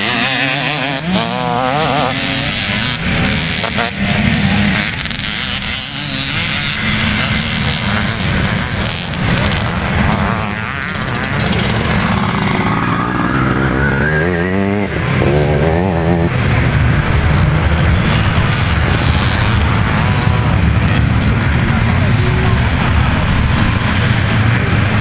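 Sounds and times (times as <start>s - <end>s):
motocross motorcycles revving: 0.0s - 25.0s.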